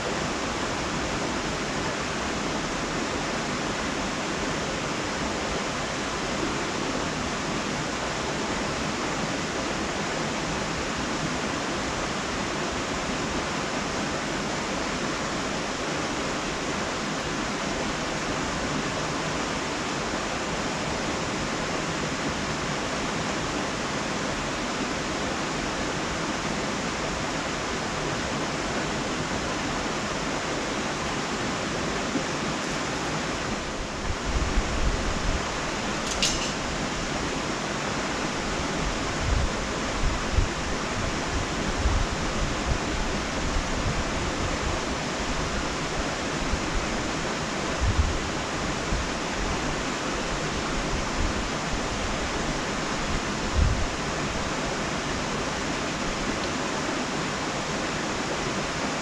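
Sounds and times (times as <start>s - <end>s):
steady rushing hiss: 0.0s - 59.0s.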